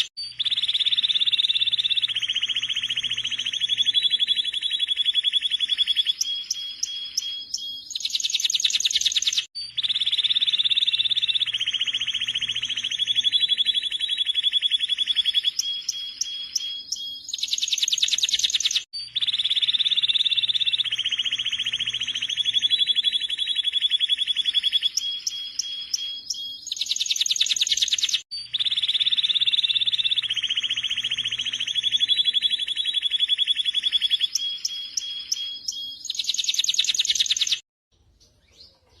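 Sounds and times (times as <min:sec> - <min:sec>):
canary singing trills: 0:00.0 - 0:37.6.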